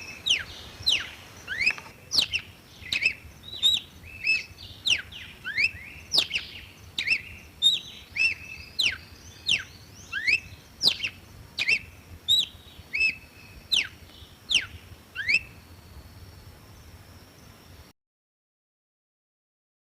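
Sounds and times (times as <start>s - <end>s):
bird whistling song: 0.0s - 16.1s.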